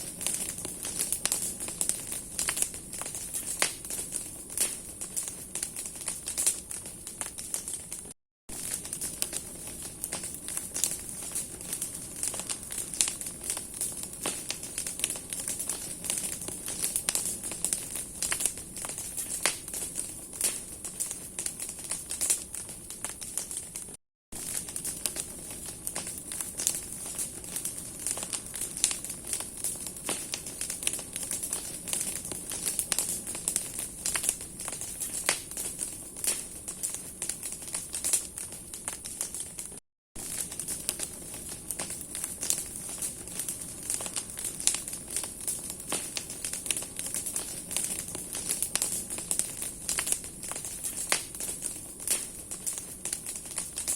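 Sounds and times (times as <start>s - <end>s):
bonfire crackling and popping: 0.0s - 53.9s
flames hissing: 0.0s - 53.9s.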